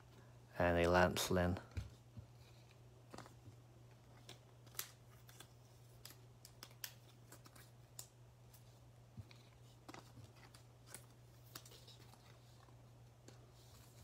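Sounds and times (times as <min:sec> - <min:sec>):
low steady hum: 0:00.0 - 0:14.0
cards being flipped by hand: 0:02.2 - 0:14.0.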